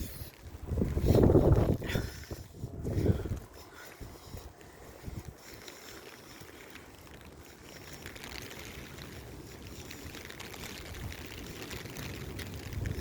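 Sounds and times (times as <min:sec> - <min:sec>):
gusty wind buffeting microphone: 0:00.0 - 0:13.0
pouring rain hiss: 0:00.0 - 0:13.0.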